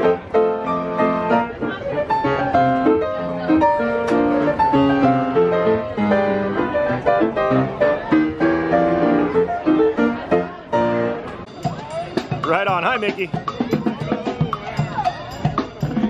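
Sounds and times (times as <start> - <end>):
lively piano tune: 0.0 - 16.0.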